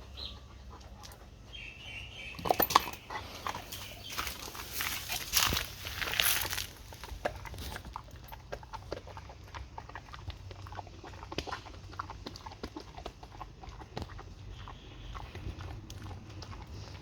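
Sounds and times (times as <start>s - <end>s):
pet chewing crunchy snack: 2.2s - 17.0s.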